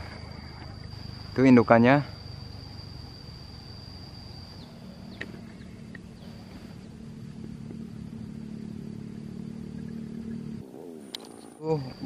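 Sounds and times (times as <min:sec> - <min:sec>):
high insect tone: 0:00.0 - 0:12.0
vehicle engine humming: 0:00.0 - 0:12.0.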